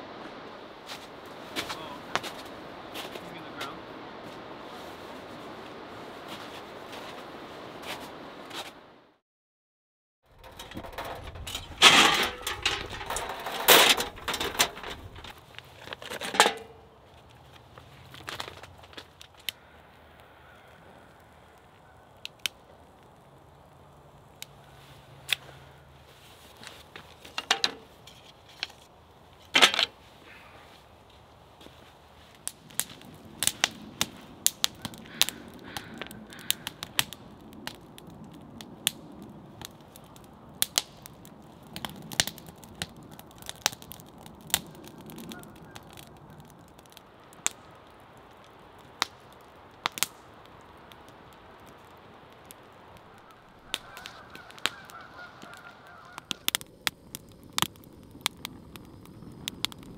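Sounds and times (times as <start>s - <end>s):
fire crackling and popping: 0.0s - 9.2s, 10.3s - 59.9s.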